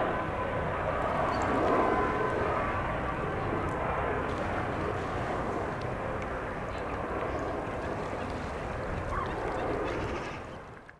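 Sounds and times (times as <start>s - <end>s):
distant helicopter rotor and engine: 0.0s - 10.9s.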